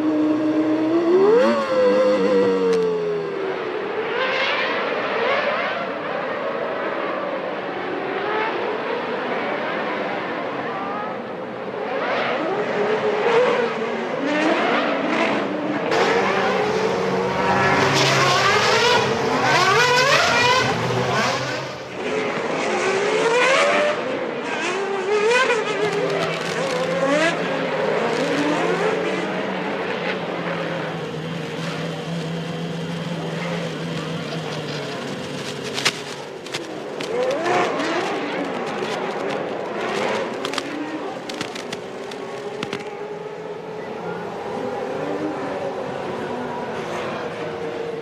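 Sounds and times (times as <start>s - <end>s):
racing car engines revving: 0.0s - 48.0s.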